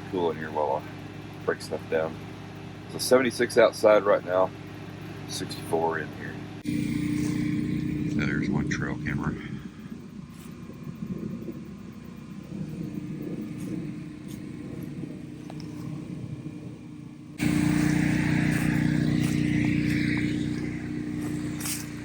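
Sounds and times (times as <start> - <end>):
generator engine humming: 0.0 - 22.0.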